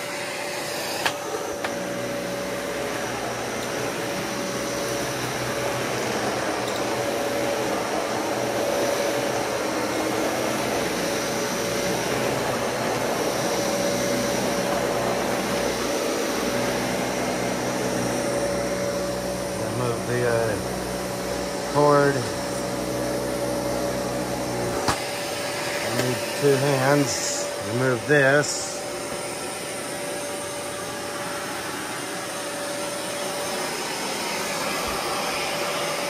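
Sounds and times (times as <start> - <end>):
vacuum cleaner running on rug: 0.0 - 36.0.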